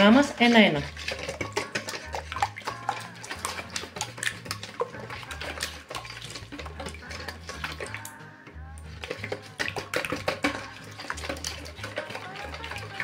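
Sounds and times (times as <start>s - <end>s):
liquid sloshing: 0.0s - 13.0s
whisk scraping metal bowl: 0.0s - 13.0s.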